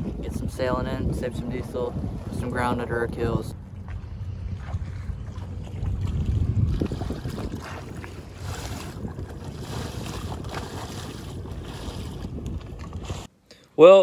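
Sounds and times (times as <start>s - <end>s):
low wind rumble: 0.0s - 13.3s
water splashing past hull: 0.0s - 13.3s
wind buffeting microphone: 0.0s - 13.3s.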